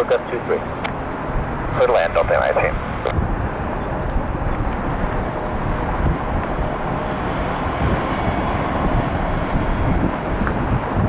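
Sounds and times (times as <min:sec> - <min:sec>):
jet airliner engine: 0:00.0 - 0:11.0
wind buffeting microphone: 0:00.0 - 0:11.0.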